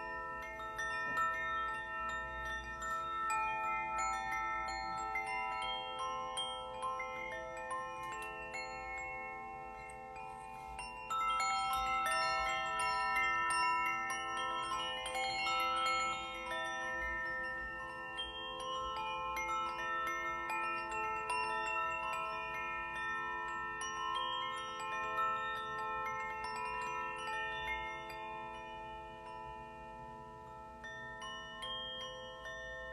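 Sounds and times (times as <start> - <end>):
metal chimes ringing: 0.0 - 32.9.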